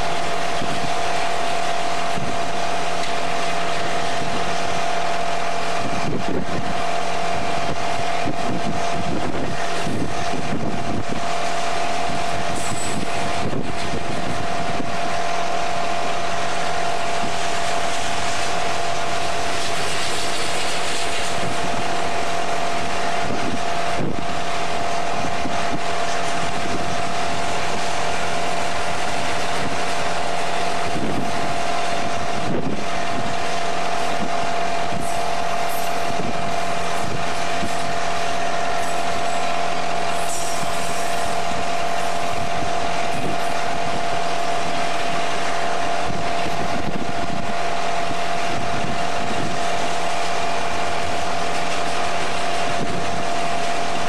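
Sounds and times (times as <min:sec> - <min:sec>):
freight train wheels rolling: 0:00.0 - 0:54.0.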